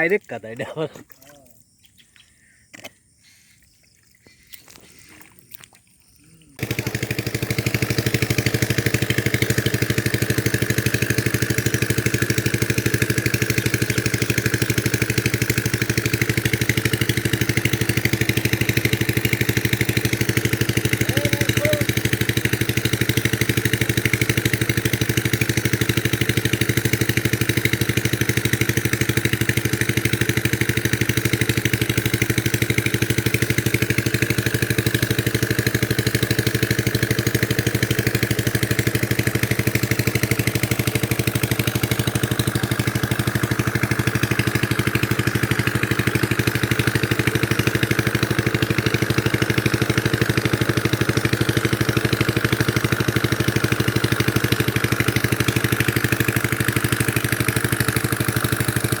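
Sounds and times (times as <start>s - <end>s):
small engine running: 6.6s - 59.0s.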